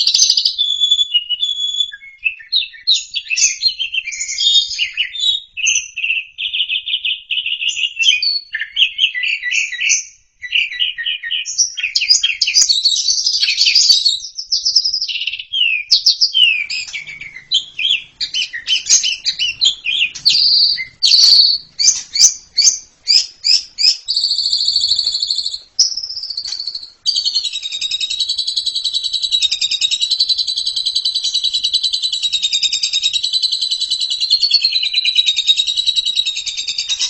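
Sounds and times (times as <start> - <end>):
starling singing: 0.0 - 37.0.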